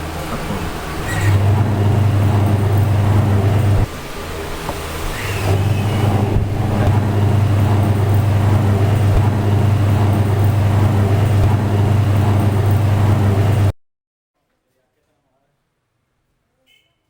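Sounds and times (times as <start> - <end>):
electric motor humming: 0.0 - 13.7.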